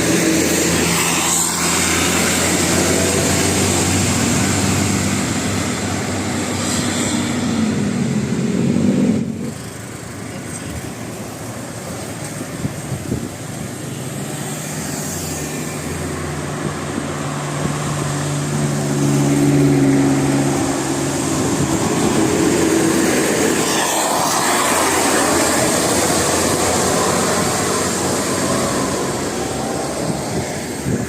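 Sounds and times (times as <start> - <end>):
bus passing close by: 0.0 - 31.0.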